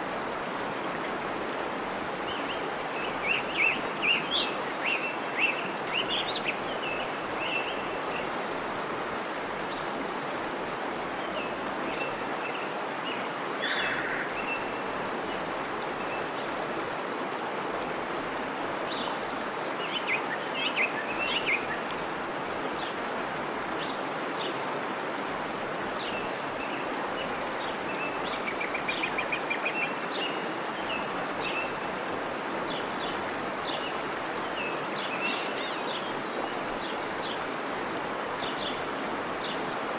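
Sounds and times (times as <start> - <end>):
songbirds chirping: 0.0 - 39.9
waterfall rushing: 0.0 - 39.9.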